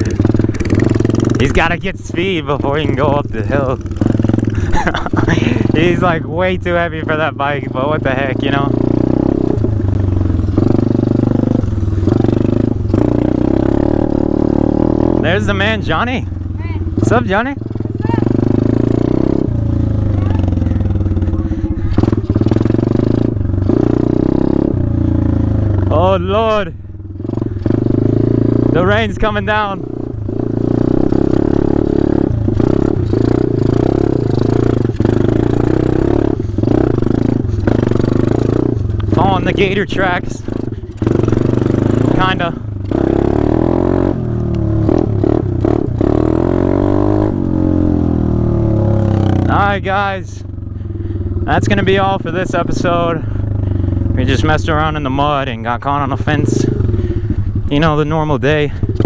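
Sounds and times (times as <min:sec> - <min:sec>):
off-road bike engine revving: 0:00.0 - 0:59.0.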